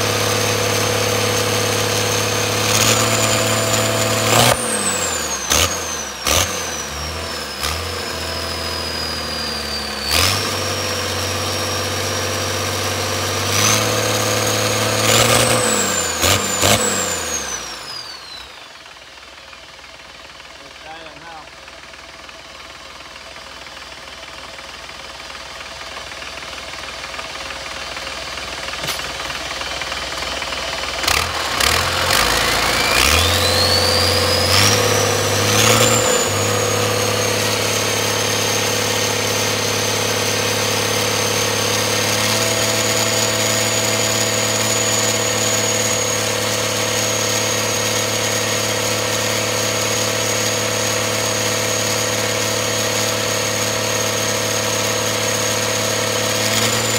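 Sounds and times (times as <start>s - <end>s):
high engine whine: 0.0s - 19.4s, 23.2s - 56.9s
diesel engine running: 0.0s - 56.9s.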